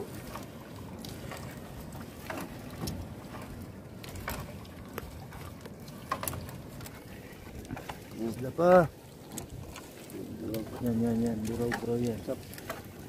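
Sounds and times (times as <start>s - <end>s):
water splashes and drips: 0.0s - 13.0s.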